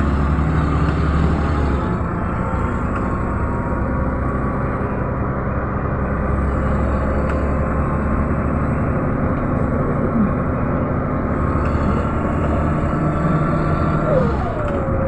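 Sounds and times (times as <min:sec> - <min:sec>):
bus engine rumble: 0:00.0 - 0:15.0
road noise: 0:00.0 - 0:15.0.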